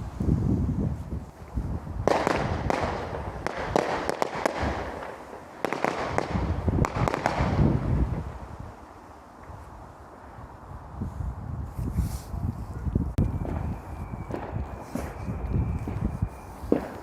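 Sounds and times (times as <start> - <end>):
fireworks crackling pops: 0.9 - 10.4, 11.6 - 17.0.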